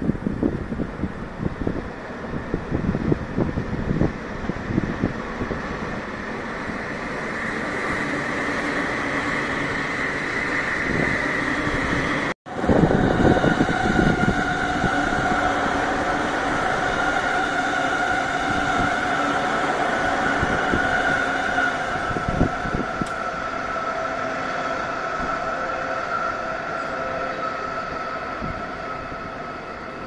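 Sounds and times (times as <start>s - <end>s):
wind buffeting microphone: 0.0s - 26.8s, 27.6s - 30.0s
electric trains rumbling past: 0.0s - 30.0s.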